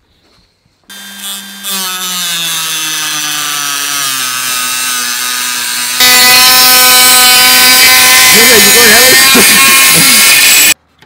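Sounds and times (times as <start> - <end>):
cutting wheel grinding: 0.9 - 10.8
rotary tool whining: 0.9 - 10.8.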